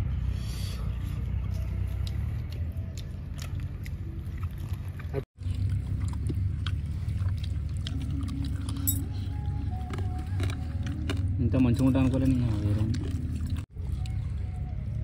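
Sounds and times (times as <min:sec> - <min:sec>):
people chewing fish: 0:00.6 - 0:15.0.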